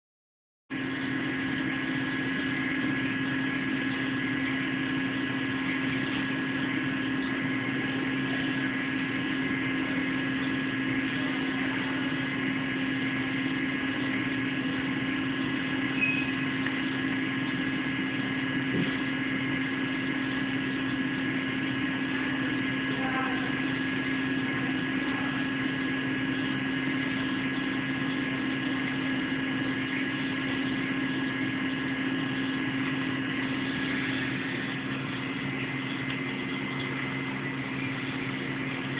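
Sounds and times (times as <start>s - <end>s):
electrical hum: 0.7s - 38.9s
high whining tones: 0.7s - 38.9s.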